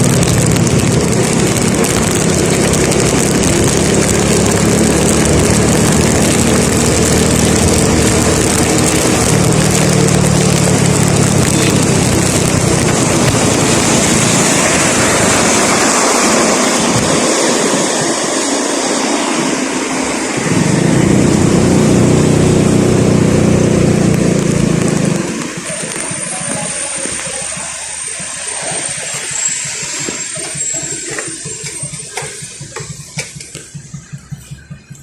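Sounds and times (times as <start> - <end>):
low engine drone: 0.0 - 35.0
tyres hissing on wet road: 0.0 - 35.0.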